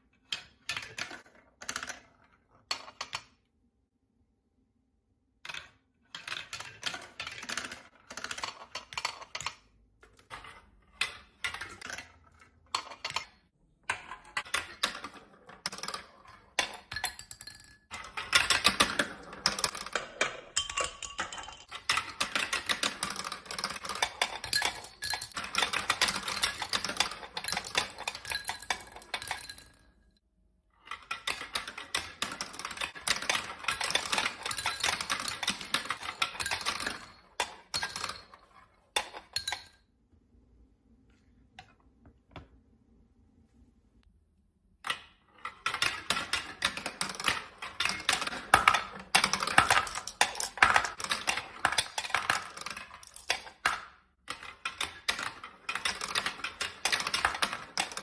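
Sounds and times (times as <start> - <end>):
marbles clattering in marble run: 0.2 - 3.4, 5.4 - 30.0, 30.8 - 39.8, 44.8 - 58.0.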